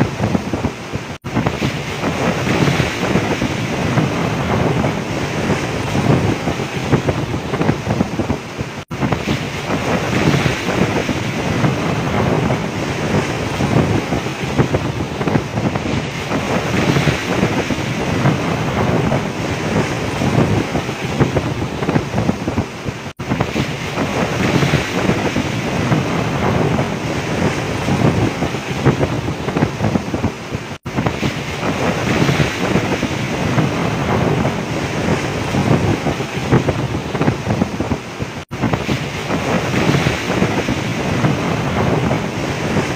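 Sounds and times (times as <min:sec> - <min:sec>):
storm waves crashing: 0:00.0 - 0:42.9
wind buffeting microphone: 0:00.0 - 0:42.9.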